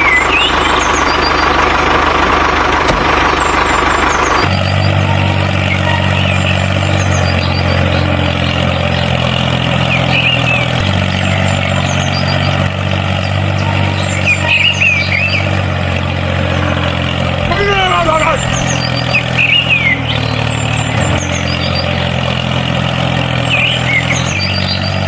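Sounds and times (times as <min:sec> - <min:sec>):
tractor engine humming: 0:00.0 - 0:25.0.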